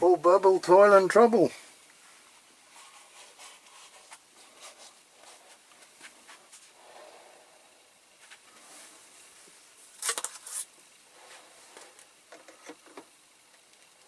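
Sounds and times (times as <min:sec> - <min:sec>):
chemical bath fizzing and crackling: 0:00.2 - 0:14.0.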